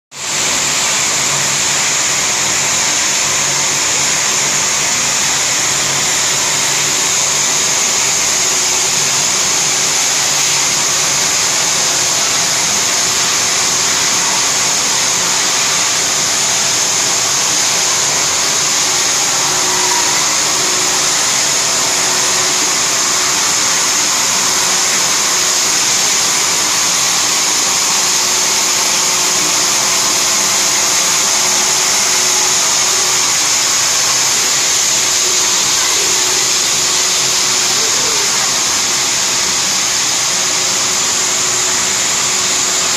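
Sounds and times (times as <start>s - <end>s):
loud high hiss: 0.1s - 42.9s.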